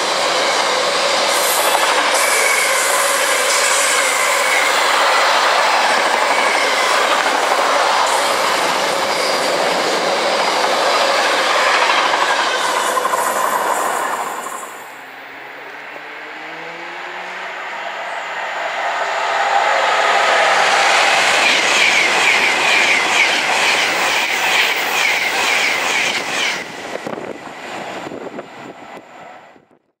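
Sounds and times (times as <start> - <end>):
train passing at speed: 0.0 - 29.8
high train whine: 0.0 - 29.9.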